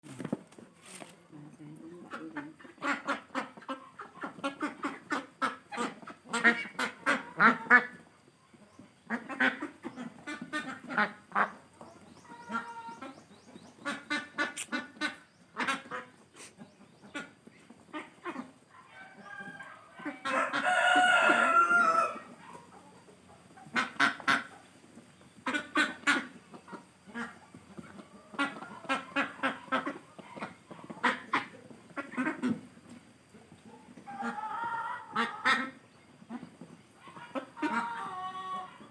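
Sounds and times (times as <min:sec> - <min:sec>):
chicken clucking: 0:00.6 - 0:38.9.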